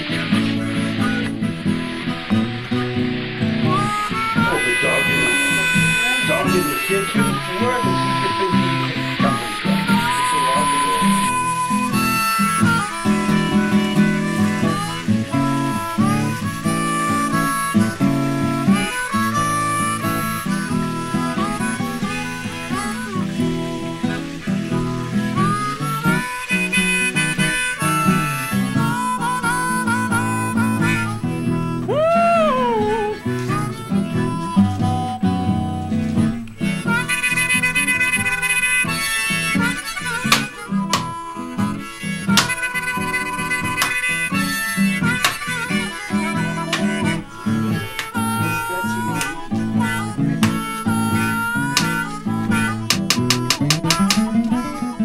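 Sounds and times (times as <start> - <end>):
acoustic guitar: 0.0 - 55.0
harmonica melody: 0.0 - 55.0.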